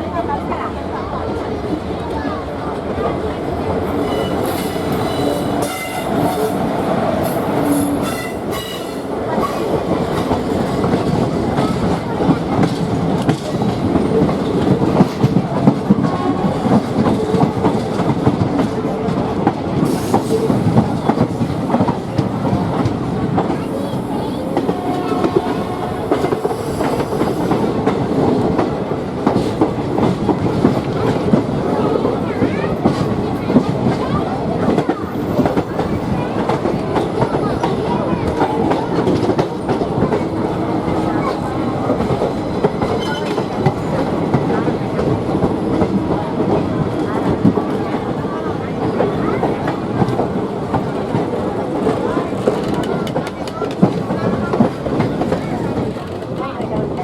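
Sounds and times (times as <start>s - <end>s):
train rumble from on board: 0.0s - 57.0s.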